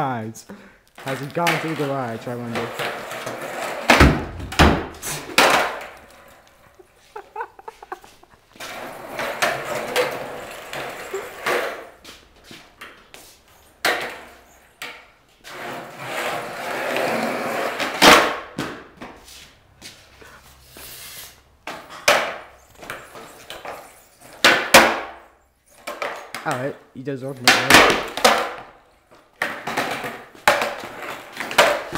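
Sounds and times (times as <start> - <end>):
skateboard wheels rolling on concrete: 0.9 - 31.9
skateboard clattering on concrete: 1.0 - 12.0, 13.8 - 19.2, 21.6 - 25.2, 25.8 - 26.8, 27.4 - 31.9.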